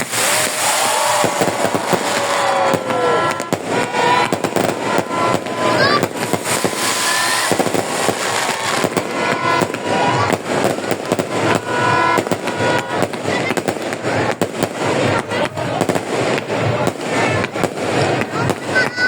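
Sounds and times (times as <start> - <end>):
fireworks bangs and crackles: 0.0 - 19.0
fireworks whistling: 0.0 - 19.0.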